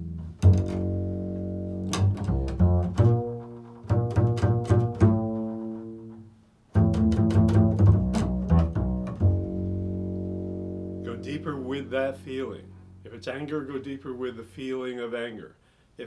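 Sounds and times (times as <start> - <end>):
plucked string instrument: 0.0 - 13.9.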